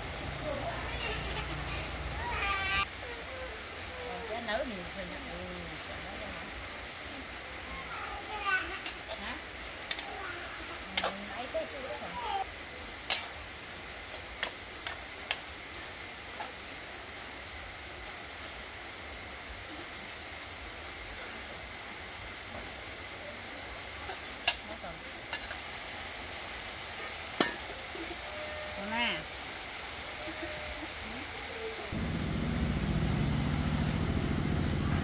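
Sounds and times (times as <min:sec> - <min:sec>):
meat sizzling in a wok: 0:00.0 - 0:35.0.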